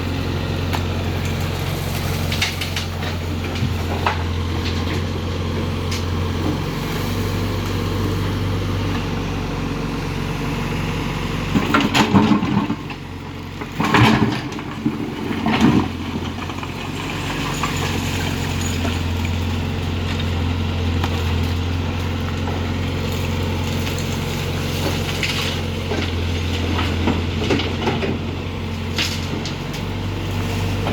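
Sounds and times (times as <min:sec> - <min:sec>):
diesel engine running: 0:00.0 - 0:30.9
rubble crashing: 0:00.8 - 0:06.7, 0:11.5 - 0:30.9.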